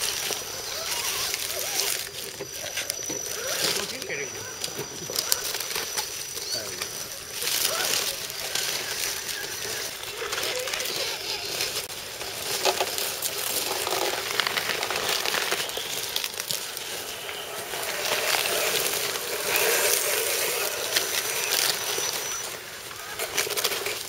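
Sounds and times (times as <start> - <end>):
dry leaves crunching under tyres: 0.0 - 24.0.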